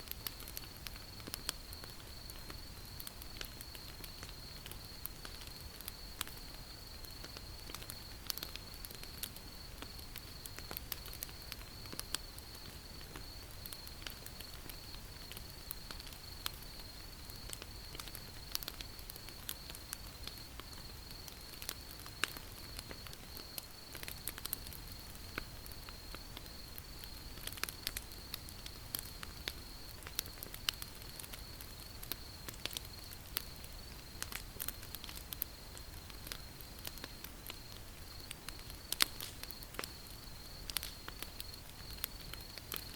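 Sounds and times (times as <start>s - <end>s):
wood fire crackling and popping: 0.0s - 42.9s
night insects trilling: 0.1s - 42.9s.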